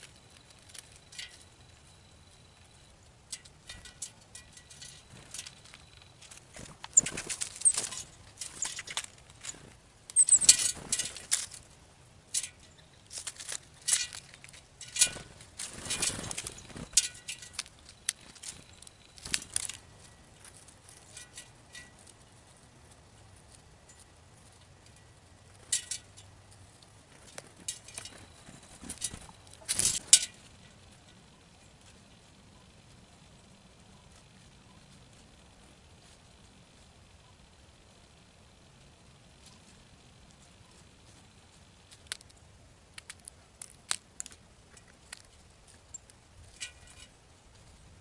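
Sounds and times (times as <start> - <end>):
birds pecking on metal trays: 0.0 - 35.8, 39.4 - 47.2.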